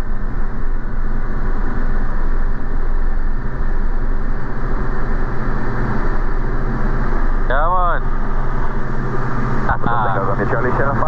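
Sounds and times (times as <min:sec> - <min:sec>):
airplane engine and propeller: 0:00.0 - 0:11.0.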